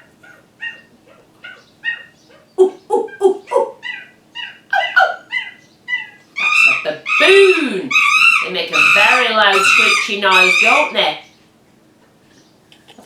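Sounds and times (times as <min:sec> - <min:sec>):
seagulls calling: 0:00.0 - 0:11.4.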